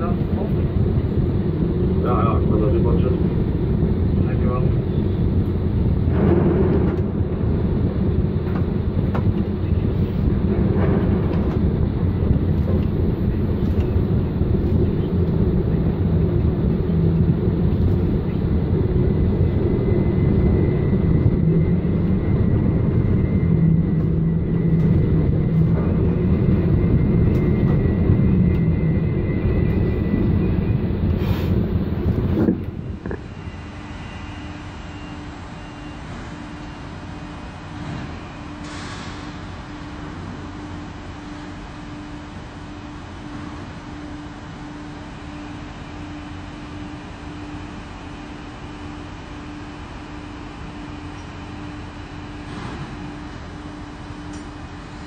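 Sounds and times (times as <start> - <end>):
crane mechanical drone: 0.0 - 55.0.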